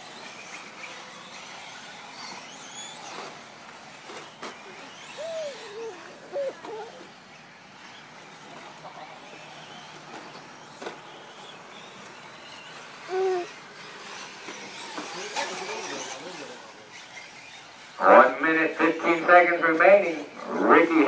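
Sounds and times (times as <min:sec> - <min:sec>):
rc truck motors whining: 0:00.0 - 0:21.0.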